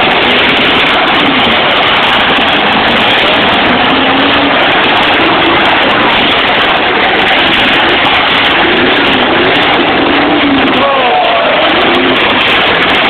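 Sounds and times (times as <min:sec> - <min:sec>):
truck engines revving: 0:00.0 - 0:13.0.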